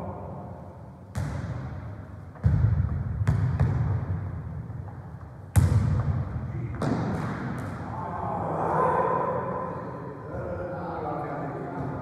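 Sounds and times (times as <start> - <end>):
football thumps echoing in hall: 0.0 - 10.7, 11.6 - 12.0.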